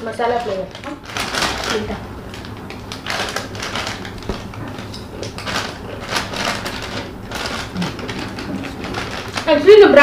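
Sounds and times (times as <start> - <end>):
chips packet crinkling: 0.2 - 10.0.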